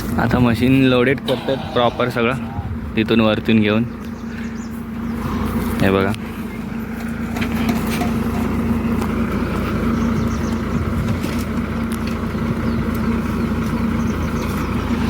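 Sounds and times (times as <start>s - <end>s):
drilling rig engine running: 0.0s - 15.0s.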